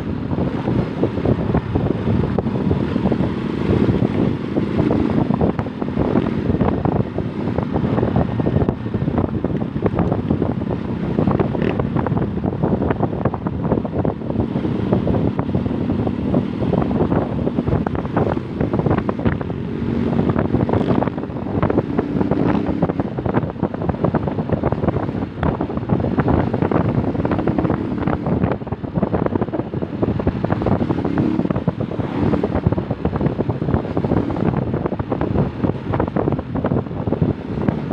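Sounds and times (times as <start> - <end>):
motorcycle engine running: 0.0 - 37.9
wind buffeting microphone: 0.0 - 37.9.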